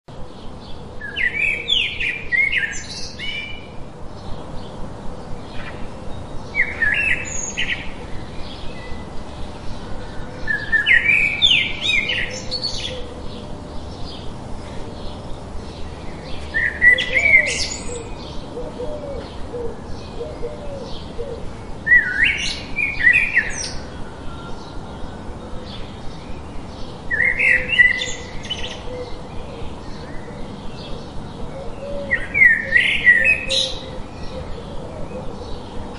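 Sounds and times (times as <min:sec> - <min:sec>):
birds chirping: 0:00.2 - 0:35.9
birds warbling: 0:05.2 - 0:35.9.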